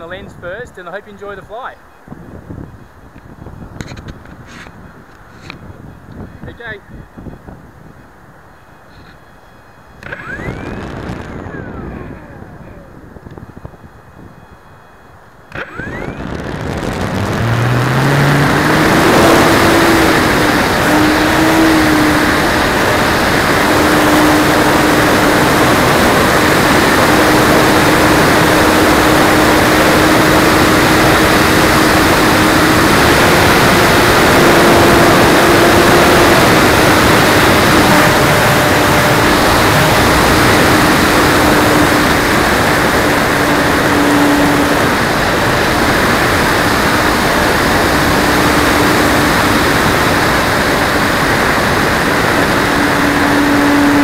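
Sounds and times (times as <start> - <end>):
electric motor and propeller hum: 1.3 - 54.0.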